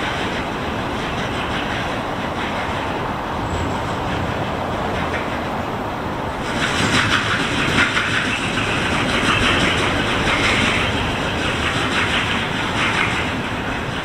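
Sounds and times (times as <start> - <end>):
freight train rumble: 0.0 - 14.0
train wheels clattering on rails: 0.0 - 14.0.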